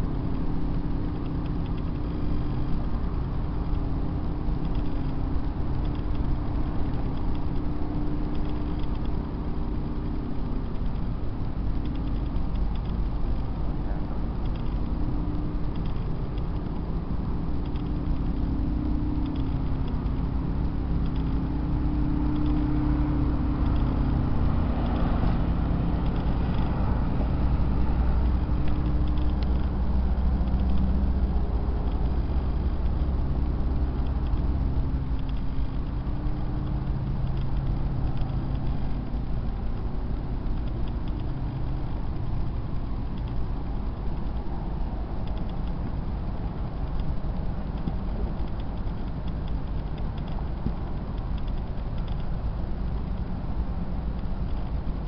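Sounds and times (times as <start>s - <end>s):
low droning hum: 0.0s - 55.0s
rumbling background: 0.0s - 55.0s.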